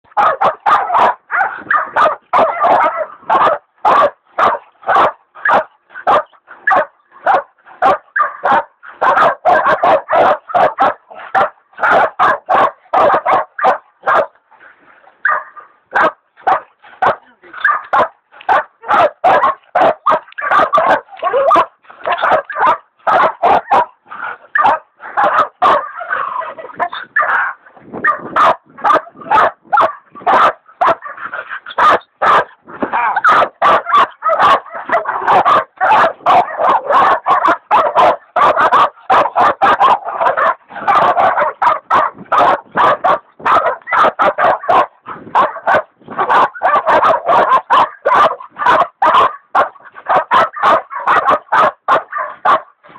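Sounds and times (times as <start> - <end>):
dogs barking rapidly: 0.1 - 14.4, 15.2 - 52.9.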